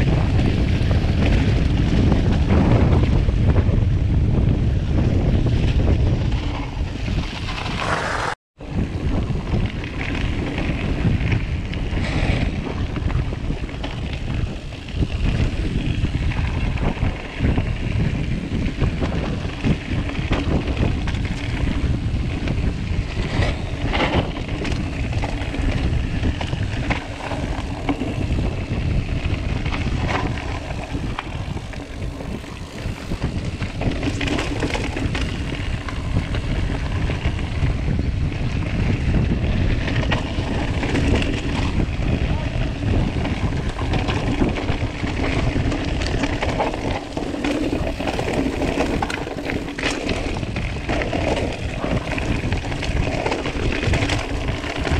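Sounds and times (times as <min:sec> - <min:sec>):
bike knocking and rattling: 0:00.0 - 0:54.9
wind rumble on microphone: 0:00.0 - 0:54.9
tyres rolling over dirt and stones: 0:05.4 - 0:54.9.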